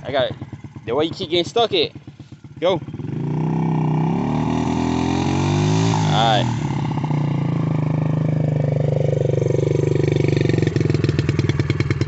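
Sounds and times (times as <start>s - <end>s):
small dirt bike engine running: 0.0s - 12.0s.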